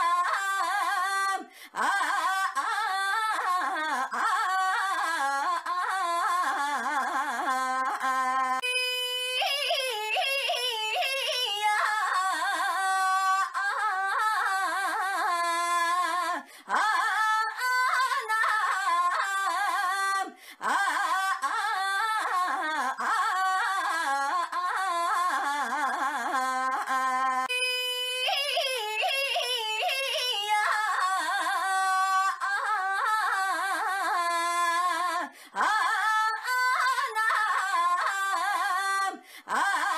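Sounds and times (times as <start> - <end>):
woman's high-pitched sing-song cry: 0.0 - 39.9.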